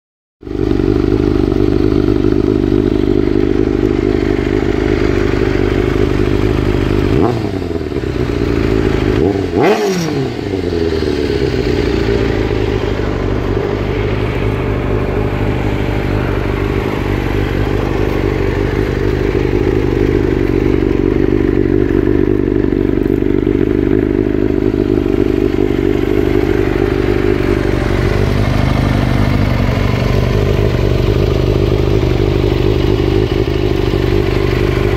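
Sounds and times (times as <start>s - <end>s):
motorcycle engine idling: 0.4s - 34.9s
motorcycle throttle blips: 0.6s - 34.9s.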